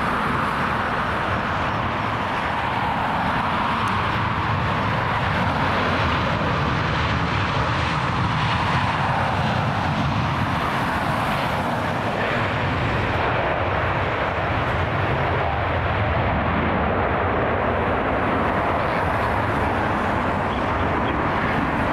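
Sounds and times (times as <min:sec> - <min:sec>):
jet engine noise: 0:00.0 - 0:21.9.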